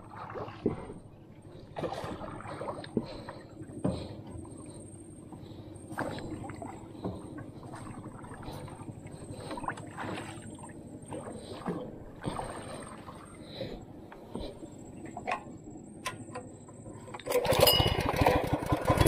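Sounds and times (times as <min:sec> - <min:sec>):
water splashing against boat hull: 0:00.0 - 0:15.6
steady low rumble: 0:00.0 - 0:17.2.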